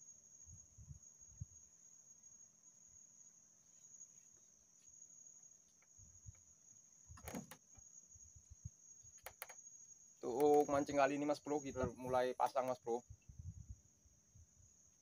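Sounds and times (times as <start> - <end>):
high-pitched insect drone: 0.0 - 13.1.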